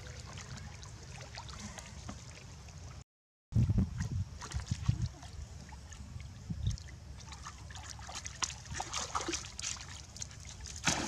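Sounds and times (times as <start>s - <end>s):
water splashing and dripping: 0.0s - 3.0s, 3.9s - 11.0s.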